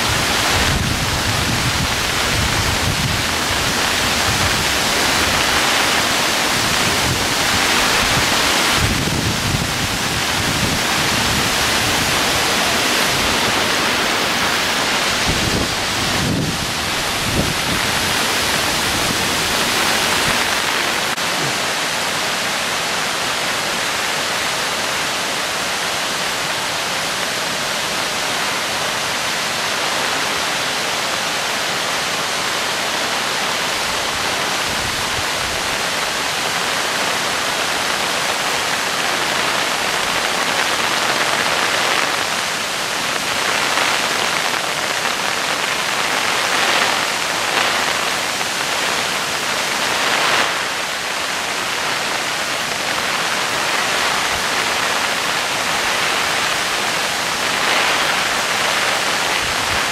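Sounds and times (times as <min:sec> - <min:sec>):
rain falling: 0:00.0 - 0:59.9
waterfall and stream rushing: 0:00.0 - 0:59.9.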